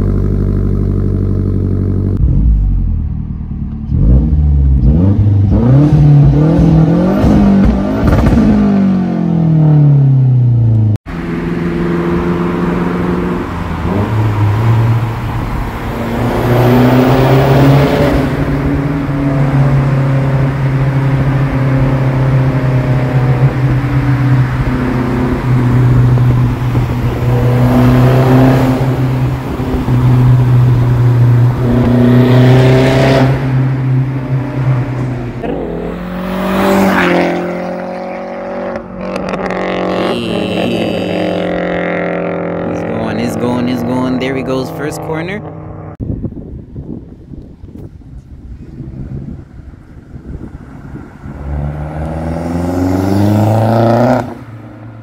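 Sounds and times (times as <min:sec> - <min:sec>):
car engine revving: 0:00.0 - 0:46.0, 0:46.6 - 0:55.0
engine and road drone in tunnel: 0:00.0 - 0:55.0.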